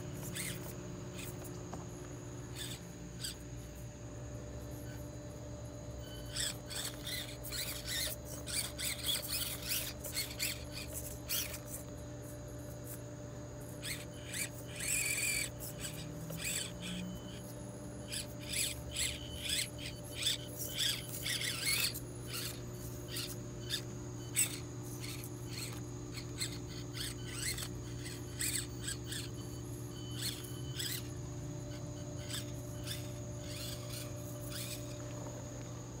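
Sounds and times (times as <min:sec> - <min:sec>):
small electric motor whining: 0:00.0 - 0:36.0.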